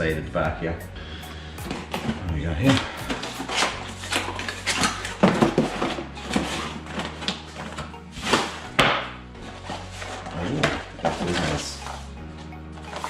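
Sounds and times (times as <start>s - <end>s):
packaging rustling and crinkling: 1.7s - 8.8s, 9.4s - 13.0s.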